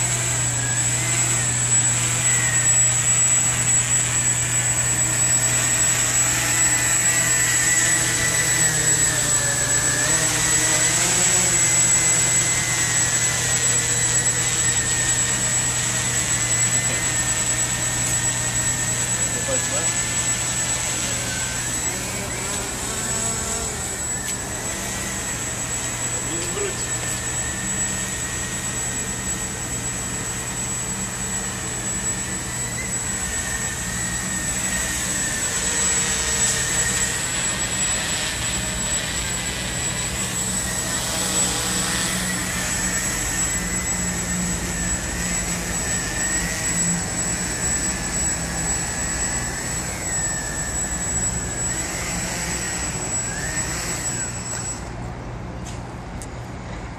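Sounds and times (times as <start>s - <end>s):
quadcopter propellers buzzing: 0.0s - 56.9s.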